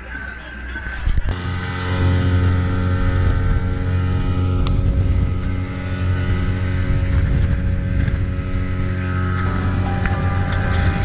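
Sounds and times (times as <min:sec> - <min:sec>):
speedboat engine droning: 0:00.0 - 0:11.0.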